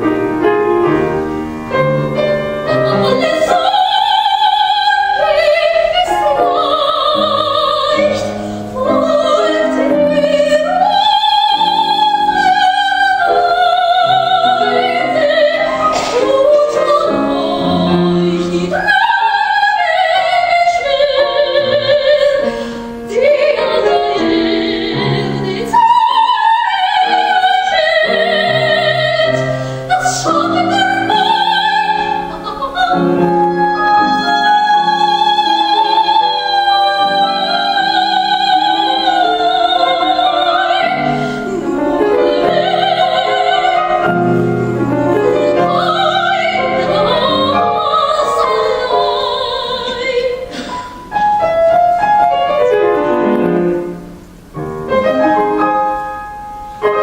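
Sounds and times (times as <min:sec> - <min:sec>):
piano accompaniment: 0:00.0 - 0:57.0
soprano singing opera: 0:01.7 - 0:53.6.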